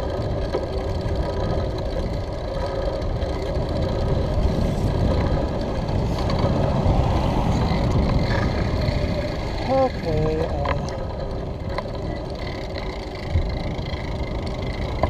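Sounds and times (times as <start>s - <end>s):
bicycle road noise: 0.0s - 15.0s
wind buffeting microphone: 0.0s - 15.0s.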